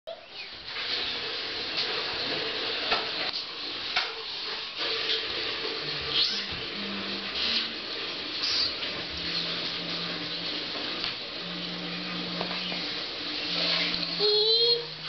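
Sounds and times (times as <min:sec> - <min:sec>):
hissing room noise: 0:00.1 - 0:15.0.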